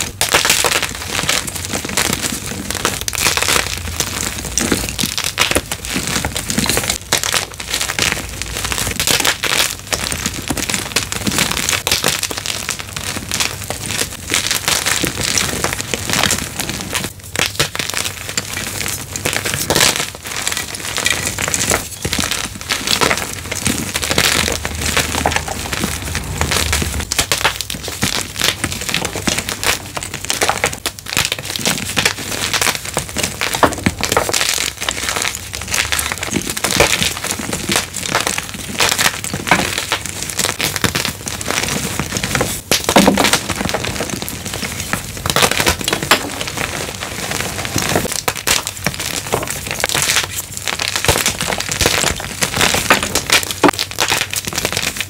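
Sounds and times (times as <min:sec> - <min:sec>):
chalk crunching and crackling: 0:00.0 - 0:55.0
sharp crack: 0:00.0 - 0:55.0.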